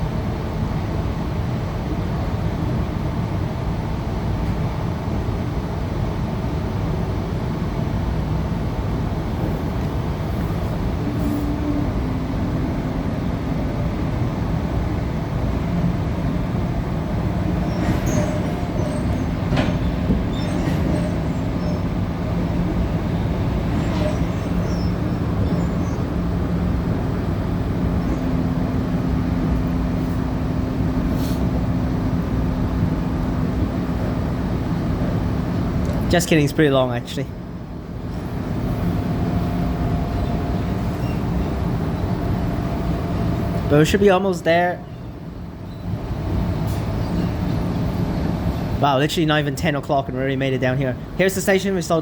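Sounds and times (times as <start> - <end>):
constant low hum: 0.0 - 52.0
train wheels rumbling on rails: 0.0 - 52.0.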